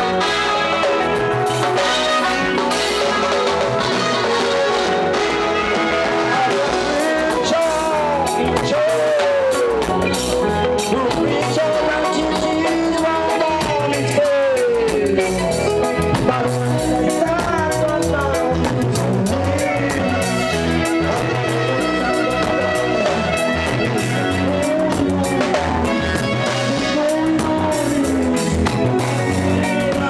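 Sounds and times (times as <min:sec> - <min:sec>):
bass guitar: 0:00.0 - 0:30.0
drum kit beat: 0:00.0 - 0:30.0
reggae band playing: 0:00.0 - 0:30.0.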